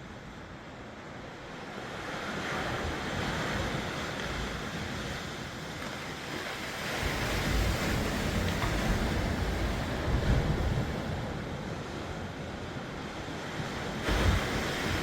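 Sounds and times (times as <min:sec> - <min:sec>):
waves breaking: 0:00.1 - 0:15.0
wind buffeting microphone: 0:02.5 - 0:15.0.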